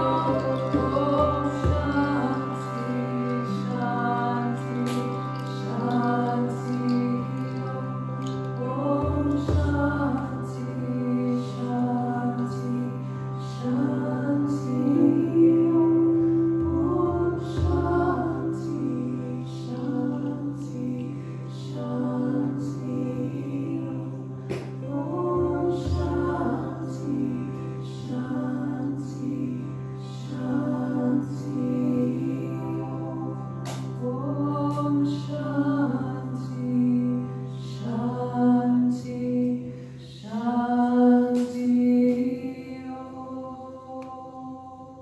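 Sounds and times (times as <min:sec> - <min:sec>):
steady drone: 0:00.0 - 0:40.4
woman chanting: 0:00.0 - 0:45.0.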